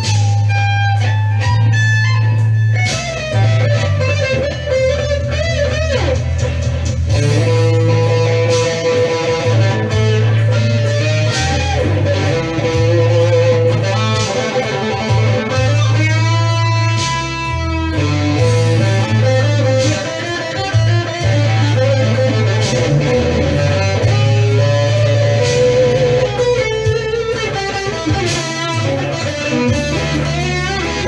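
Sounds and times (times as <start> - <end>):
electric guitar playing blues: 0.0 - 31.0
low bass line: 0.0 - 31.0.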